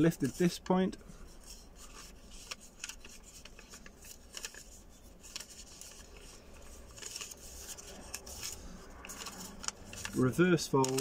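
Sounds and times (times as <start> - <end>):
paper crinkling while folded: 0.0 - 11.0.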